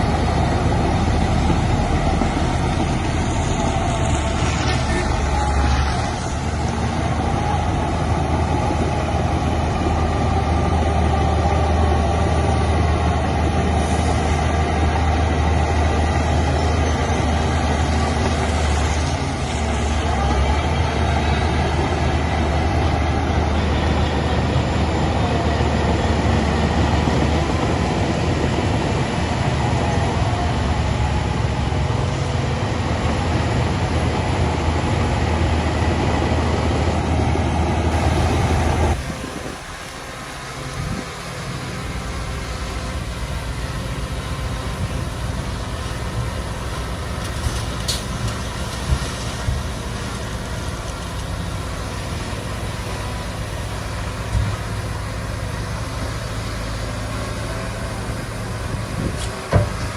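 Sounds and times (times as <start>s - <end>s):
diesel machinery running: 0.0s - 59.9s.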